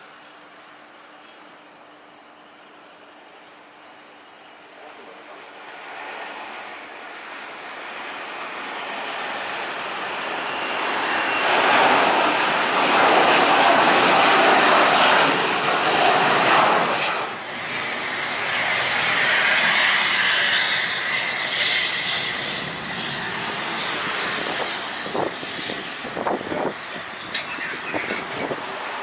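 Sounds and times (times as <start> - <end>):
jet airliner engine roar: 0.0 - 29.0
whining jet engine tone: 0.0 - 29.0.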